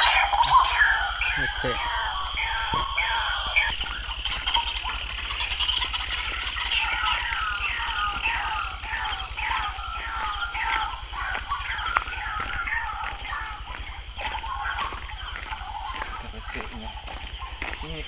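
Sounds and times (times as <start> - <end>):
high insect trill: 0.0 - 18.0
rapid short falling calls: 0.0 - 18.0.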